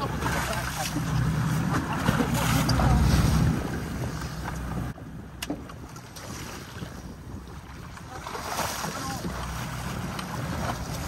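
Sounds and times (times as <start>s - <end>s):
sea ambience: 0.0s - 11.0s
wind on microphone: 0.0s - 11.0s.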